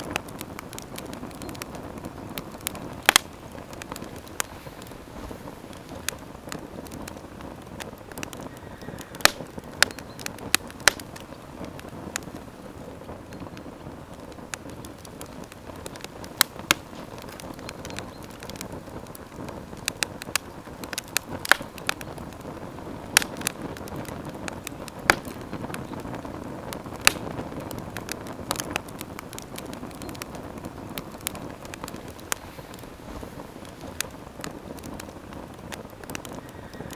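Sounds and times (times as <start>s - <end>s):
campfire pops and snaps: 0.0s - 36.9s
flames rushing: 0.0s - 36.9s.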